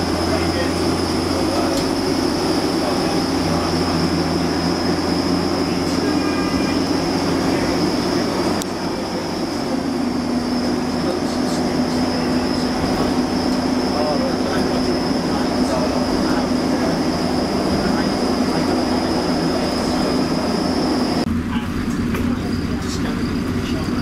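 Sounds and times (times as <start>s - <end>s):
bus engine drone: 0.0s - 24.0s
constant high whine: 0.0s - 24.0s
road rumble: 0.0s - 24.0s.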